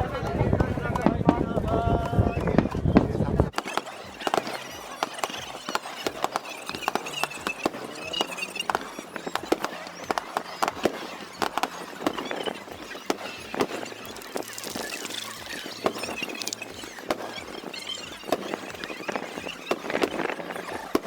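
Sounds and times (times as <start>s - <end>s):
fireworks popping and crackling: 0.0s - 21.0s
faint high whistle: 3.6s - 21.0s.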